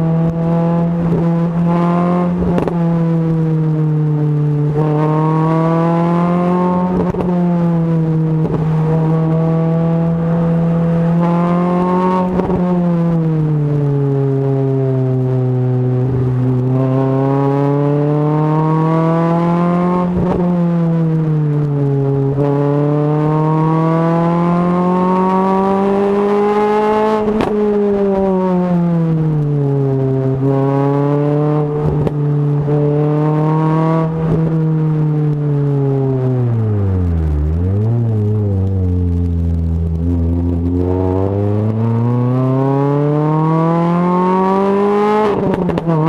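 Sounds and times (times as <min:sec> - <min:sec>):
car engine revving through gears: 0:00.0 - 0:46.0.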